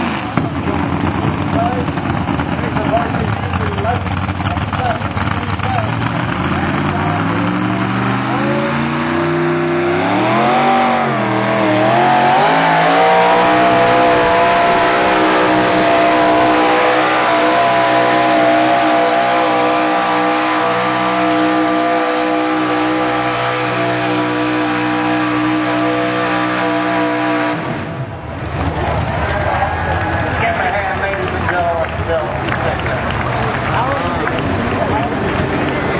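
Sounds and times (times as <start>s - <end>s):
tractor engine revving hard: 0.0s - 35.9s.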